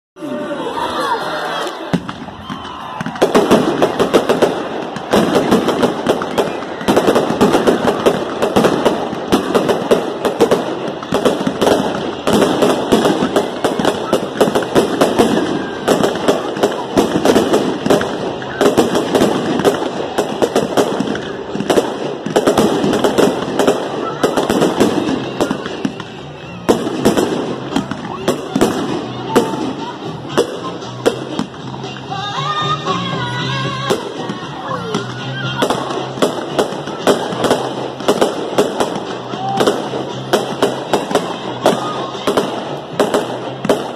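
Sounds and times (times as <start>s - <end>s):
fireworks bursting and crackling: 1.6s - 43.9s.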